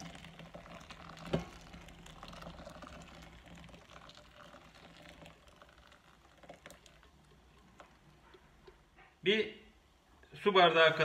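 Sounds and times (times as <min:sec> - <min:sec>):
water pouring from kettle: 0:00.0 - 0:08.9, 0:10.8 - 0:11.0.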